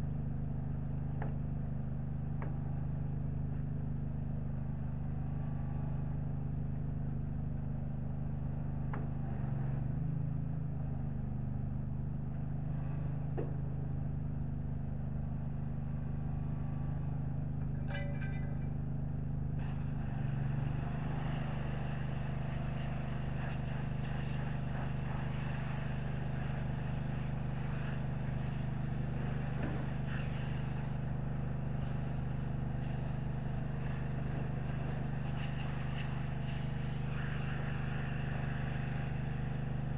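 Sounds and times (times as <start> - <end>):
engine hum: 0.0 - 39.9.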